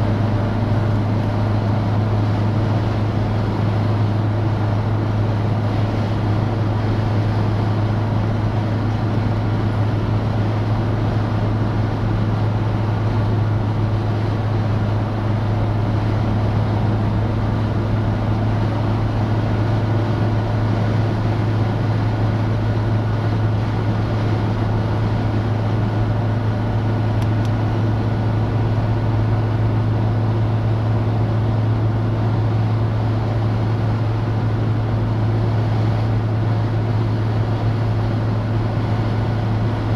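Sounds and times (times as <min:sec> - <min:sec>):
car engine cruising: 0:00.0 - 0:39.9
road and wind noise: 0:00.0 - 0:39.9.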